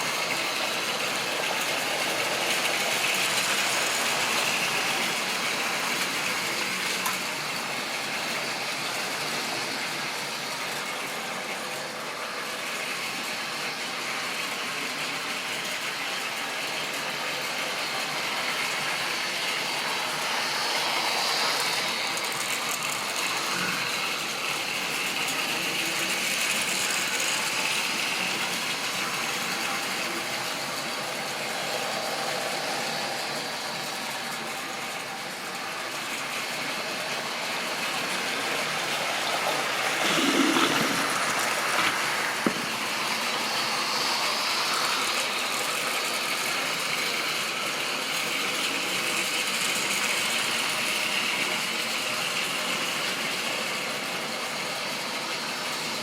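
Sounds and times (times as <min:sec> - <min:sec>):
model train rattling on track: 0:00.0 - 0:56.0.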